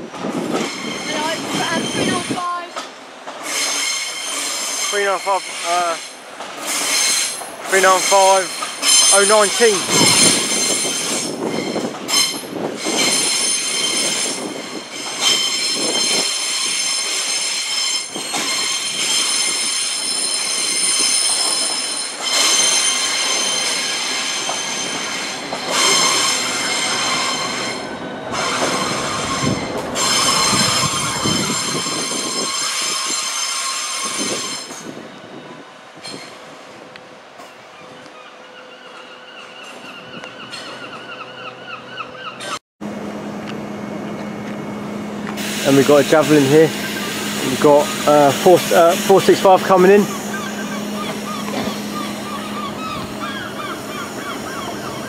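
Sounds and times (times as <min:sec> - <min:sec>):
train rumble: 0:00.0 - 0:55.0
train wheels squealing: 0:00.4 - 0:02.4, 0:03.4 - 0:36.6, 0:37.4 - 0:42.6, 0:45.6 - 0:55.0.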